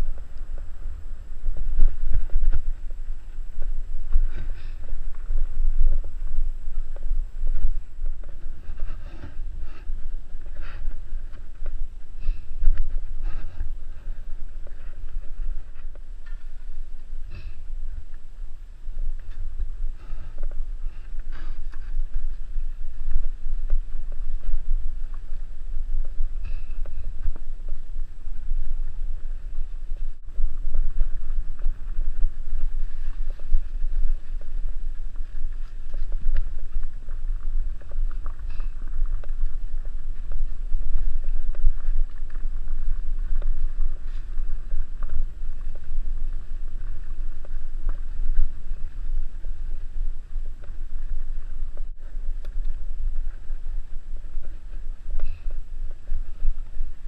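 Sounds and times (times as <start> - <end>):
low rumble of ride vibration: 0.0 - 57.0
wind on microphone: 0.0 - 57.0.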